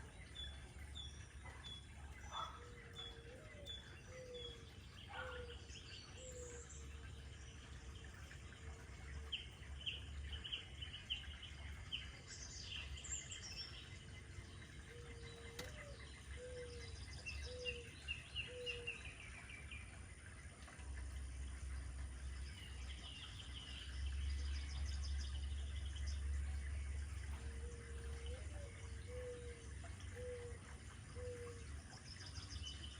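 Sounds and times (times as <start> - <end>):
birds trilling and chirping: 0.0 - 32.9
low repeated falling bird notes: 0.0 - 32.9.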